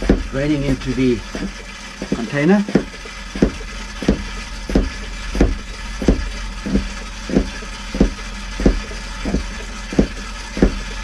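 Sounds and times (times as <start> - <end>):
hand pump stroking: 0.0 - 11.0
steady low hum: 0.0 - 11.0.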